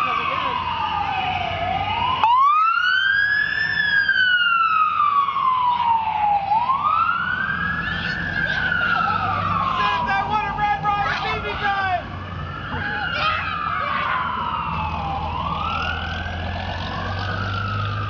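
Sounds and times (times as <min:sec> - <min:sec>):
fire truck siren wailing: 0:00.0 - 0:18.0.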